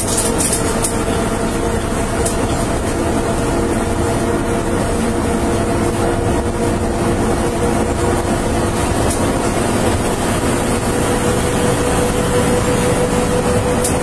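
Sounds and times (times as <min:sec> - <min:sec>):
vehicle rumble with constant hum: 0:00.0 - 0:14.0.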